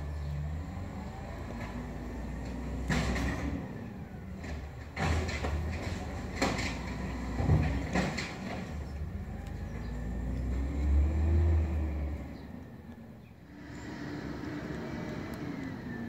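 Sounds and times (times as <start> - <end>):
garbage truck engine running: 0.0 - 16.0.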